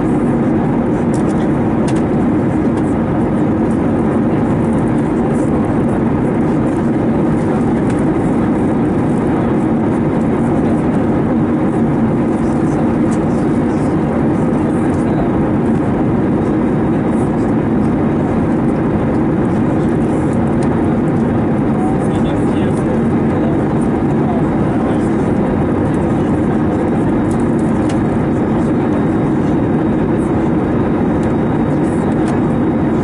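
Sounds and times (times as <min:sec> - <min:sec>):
airplane cabin rumble and hum: 0:00.0 - 0:33.0.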